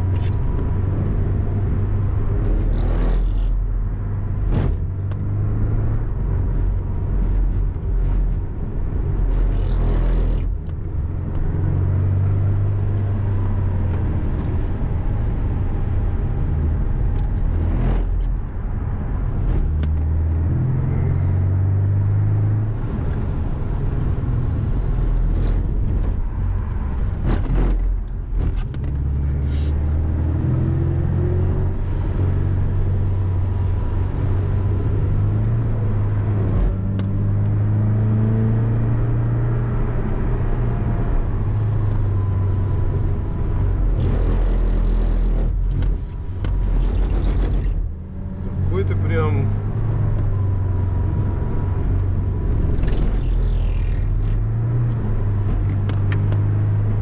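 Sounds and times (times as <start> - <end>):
car engine drone from inside cabin: 0.0 - 57.0.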